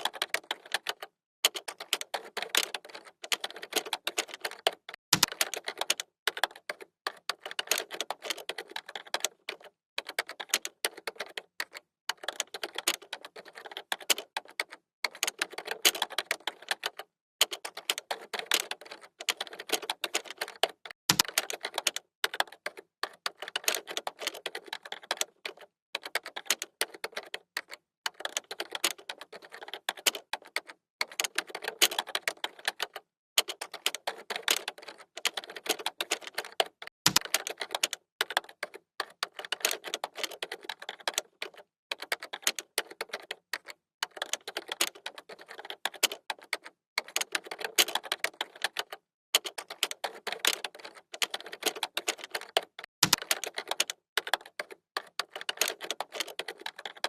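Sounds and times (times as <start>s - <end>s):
computer keyboard typing: 0.0s - 57.0s.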